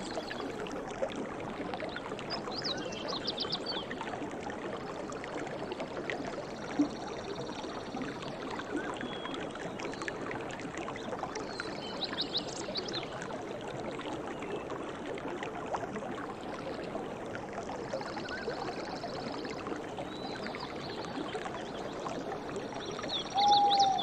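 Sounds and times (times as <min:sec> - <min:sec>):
stream babbling: 0:00.0 - 0:24.0.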